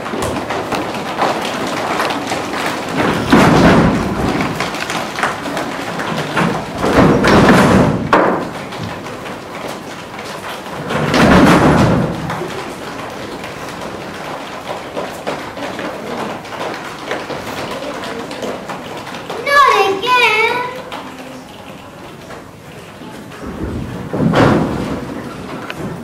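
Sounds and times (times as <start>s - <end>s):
ball thudding in a hall: 0.0s - 19.2s, 23.4s - 26.0s.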